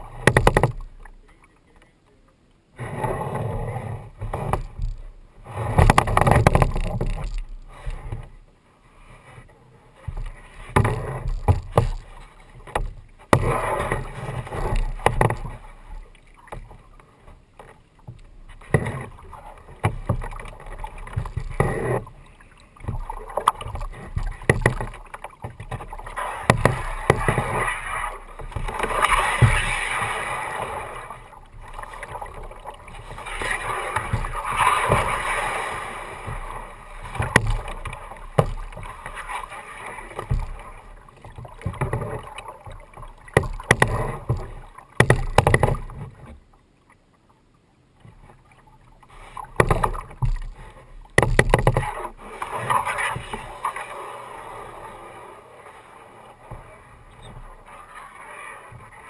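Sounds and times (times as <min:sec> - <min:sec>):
paddle splashing water: 0:00.0 - 0:59.0
water sloshing against hull: 0:00.0 - 0:59.0.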